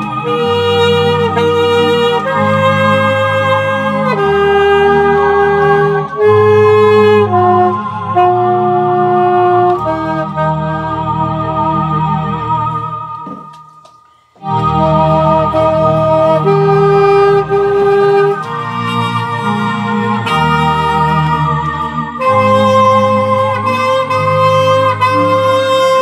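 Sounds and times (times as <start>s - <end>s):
alto saxophone: 0.0s - 26.0s.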